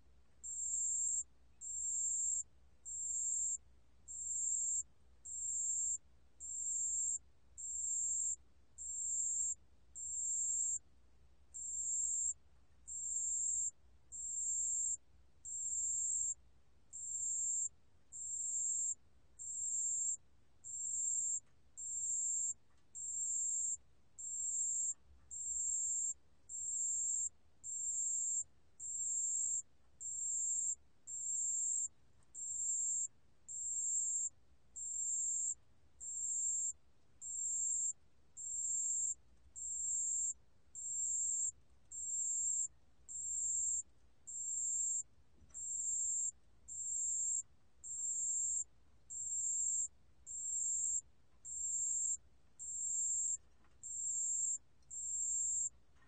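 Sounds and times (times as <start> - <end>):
cricket trilling: 0.4 - 10.8, 11.6 - 55.7.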